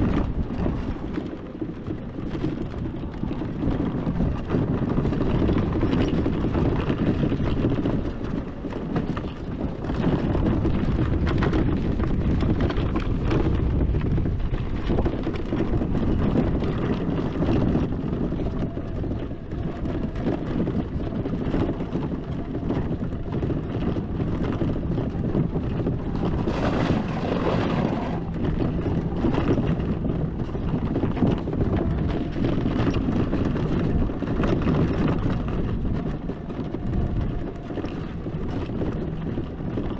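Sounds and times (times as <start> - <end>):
tyres rumbling on rough ground: 0.0 - 39.9
wind buffeting microphone: 0.0 - 39.9.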